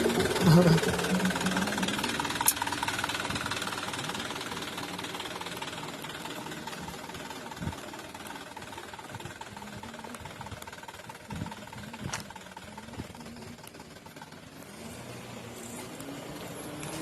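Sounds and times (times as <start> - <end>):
diesel truck engine clattering: 0.0 - 17.0.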